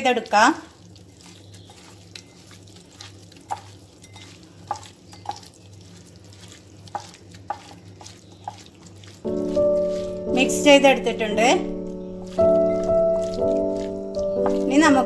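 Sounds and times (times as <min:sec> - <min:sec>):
hand squishing raw chicken: 0:00.2 - 0:15.0.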